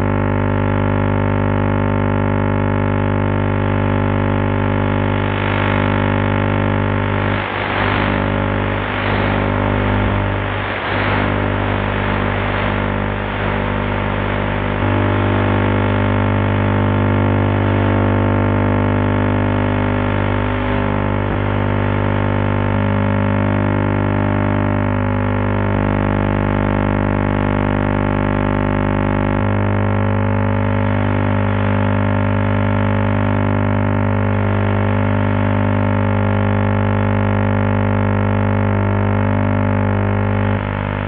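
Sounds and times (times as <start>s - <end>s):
steady radio buzz: 0.0s - 41.0s.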